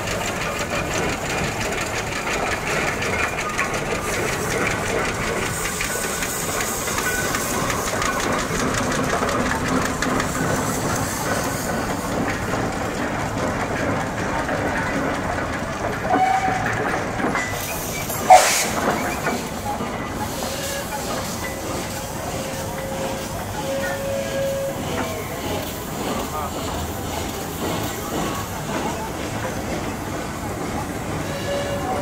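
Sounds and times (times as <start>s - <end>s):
steam engines driving past: 0.0s - 32.0s.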